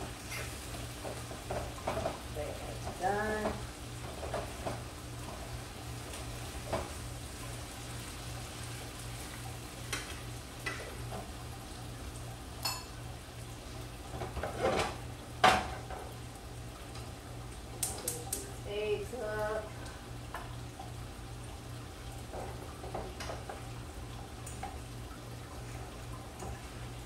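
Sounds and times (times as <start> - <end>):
food frying in pans: 0.0 - 27.0.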